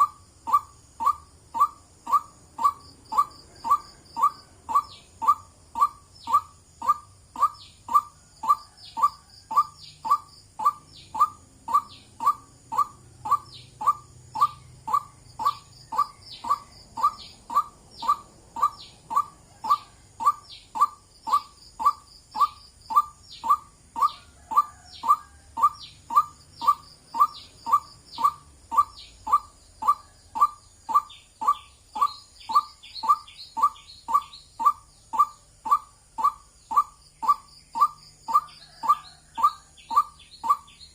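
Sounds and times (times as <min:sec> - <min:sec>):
bird calling repeated note: 0:00.0 - 0:40.9.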